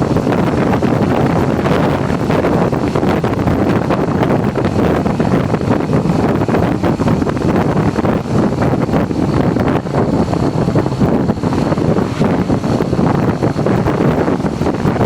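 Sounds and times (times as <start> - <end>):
motorcycle engine and road noise: 0.0 - 15.0
wind buffeting microphone: 0.0 - 15.0.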